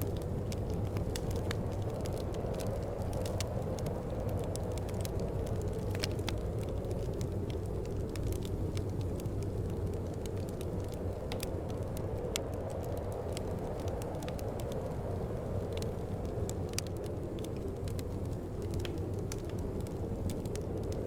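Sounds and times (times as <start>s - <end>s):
fireplace crackling and popping: 0.0s - 21.0s
low rush of wind: 0.0s - 21.0s.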